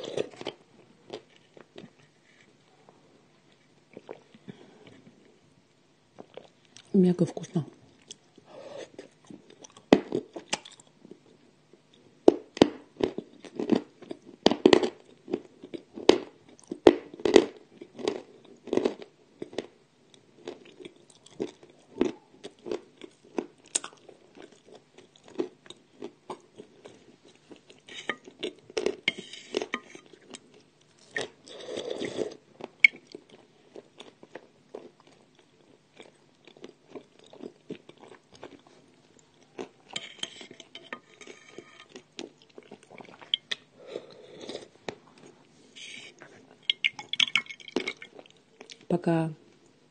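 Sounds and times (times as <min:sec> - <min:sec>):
crunching and chewing: 0:00.0 - 0:02.6, 0:07.9 - 0:48.9.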